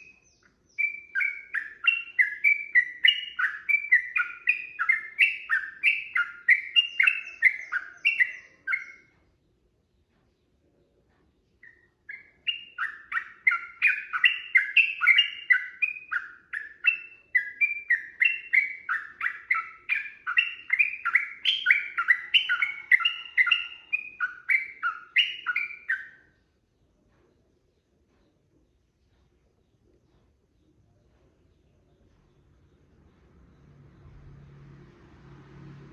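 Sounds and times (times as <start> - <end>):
bird chirping quickly: 0.0 - 10.6, 11.4 - 35.9.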